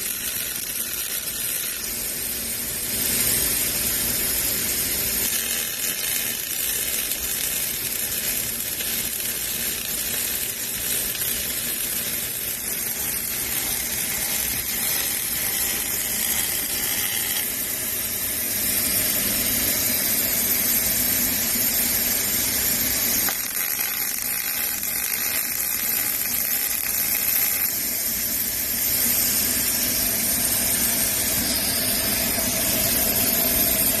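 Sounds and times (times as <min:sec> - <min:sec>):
welding arc sizzling: 0:00.0 - 0:34.0.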